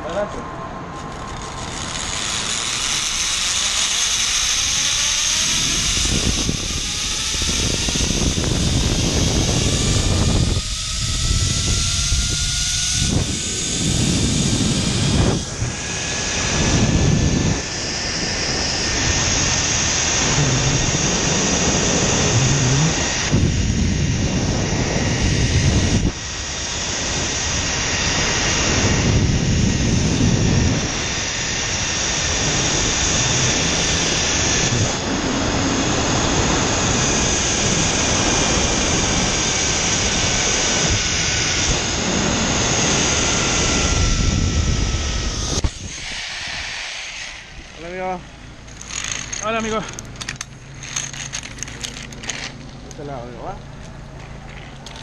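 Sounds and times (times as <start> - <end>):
zip-line pulleys whining on cable: 0.0 - 55.0
wind buffeting microphone: 5.4 - 55.0.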